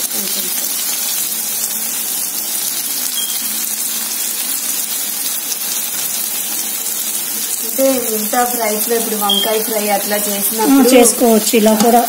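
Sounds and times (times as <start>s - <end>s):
okra sizzling in oil: 0.0s - 12.0s.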